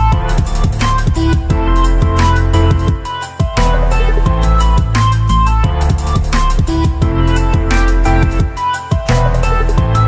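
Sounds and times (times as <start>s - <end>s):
electronic music with deep bass: 0.0s - 10.0s.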